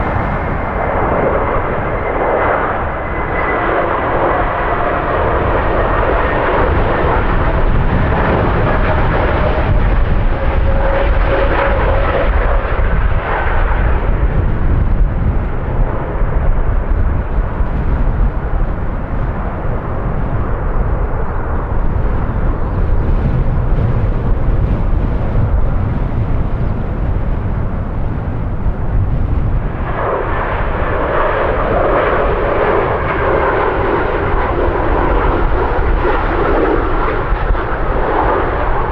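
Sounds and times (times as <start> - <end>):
jet airliner engine roar: 0.0 - 38.9
wind buffeting microphone: 0.0 - 38.9.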